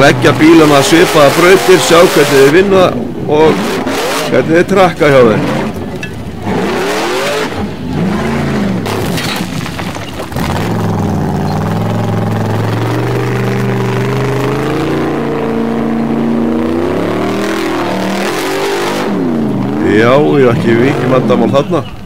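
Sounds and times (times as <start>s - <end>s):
buggy engine revving: 0.0s - 22.0s.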